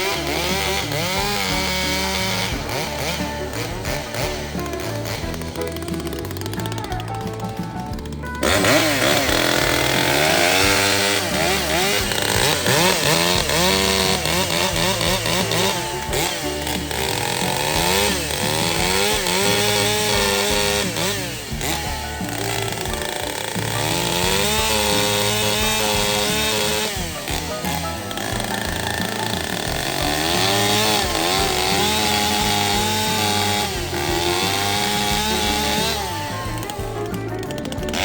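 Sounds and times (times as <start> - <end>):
chainsaw cutting wood: 0.0 - 38.0.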